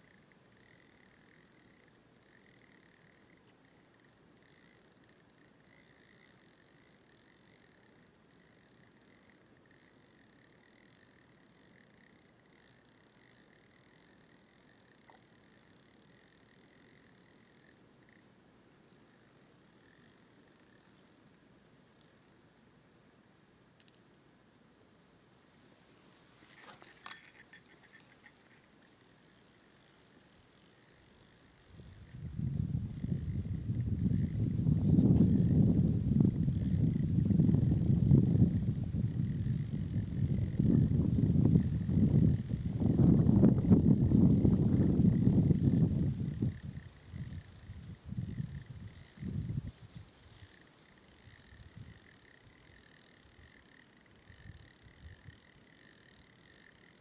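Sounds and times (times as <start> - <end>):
fishing reel ratcheting: 0.1 - 18.2, 18.9 - 21.2, 26.5 - 34.6, 35.3 - 57.0.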